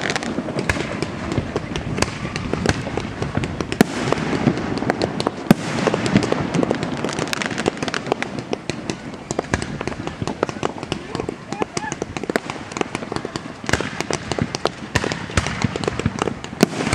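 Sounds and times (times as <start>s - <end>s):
firework shell bursts and crackling: 0.0s - 16.9s
sharp firework bangs: 0.0s - 16.9s.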